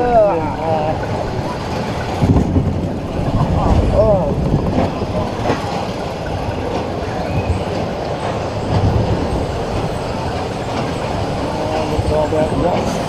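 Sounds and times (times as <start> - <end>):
roller coaster rumbling on track: 0.0 - 13.0
wheels rattling and clacking: 0.0 - 13.0.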